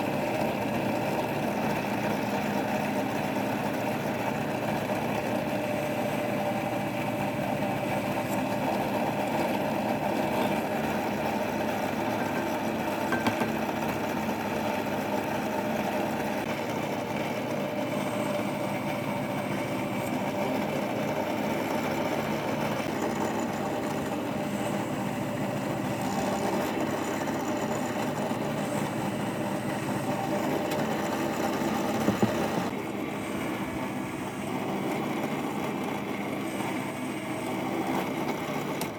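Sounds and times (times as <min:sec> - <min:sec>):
drill press motor running: 0:00.0 - 0:38.9.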